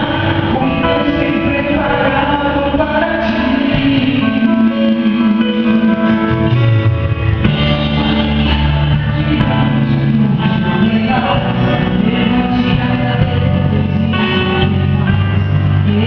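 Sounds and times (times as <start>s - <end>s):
bass guitar: 0.0s - 16.0s
guitar: 0.0s - 16.0s
sustained chords: 0.0s - 16.0s.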